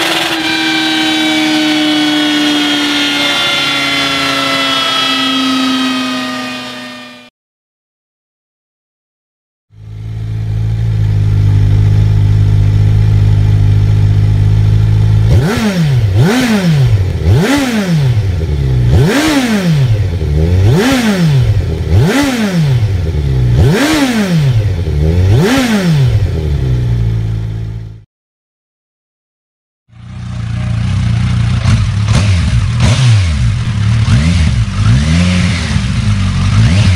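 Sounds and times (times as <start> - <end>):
motorcycle engine idling and revving: 0.0 - 7.3, 9.7 - 28.1, 29.9 - 36.9.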